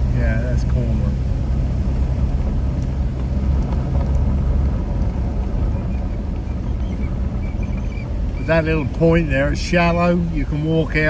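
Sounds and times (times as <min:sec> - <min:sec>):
vehicle engine and tyre rumble on sand: 0:00.0 - 0:11.0.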